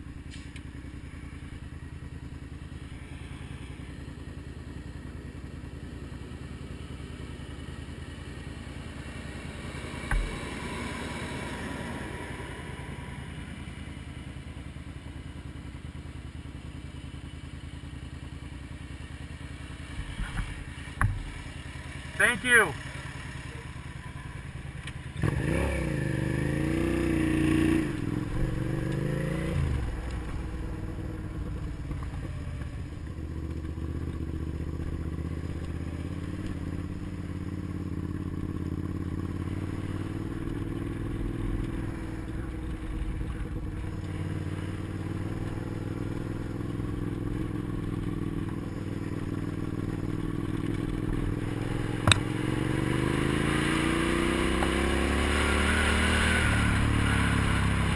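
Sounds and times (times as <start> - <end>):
motorcycle engine revving: 0.0 - 15.9, 16.6 - 57.9.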